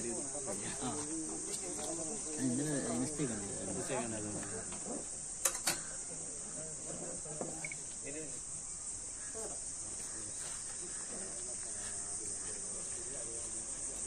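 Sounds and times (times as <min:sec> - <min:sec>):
faint distant voices: 0:00.0 - 0:14.0
insects chorus: 0:00.0 - 0:14.0.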